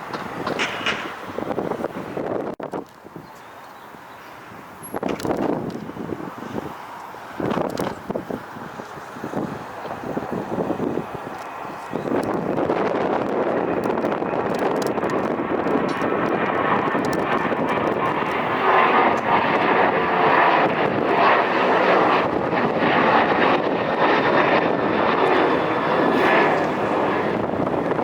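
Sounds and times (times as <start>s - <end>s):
jet airliner taking off: 0.0s - 28.0s.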